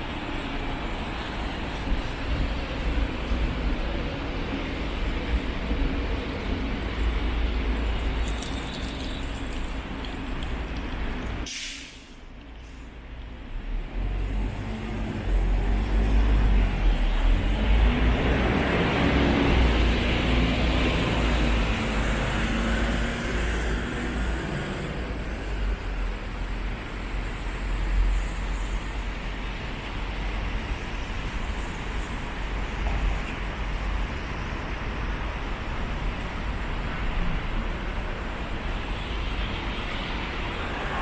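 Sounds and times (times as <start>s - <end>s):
traffic on wet road: 0.0s - 41.0s.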